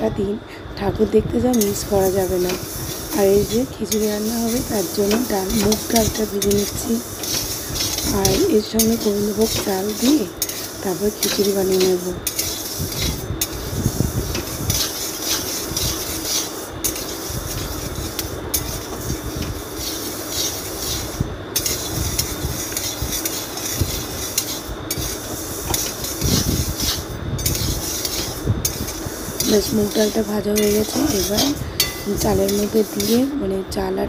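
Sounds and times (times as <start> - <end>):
metal spatula scraping pan: 1.5 - 33.4
dry lentils rustling: 1.6 - 33.3.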